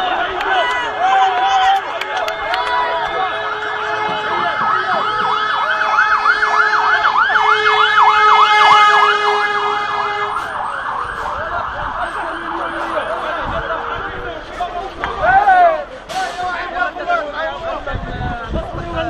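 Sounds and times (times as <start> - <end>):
fire engine siren yelping: 0.7 - 16.4.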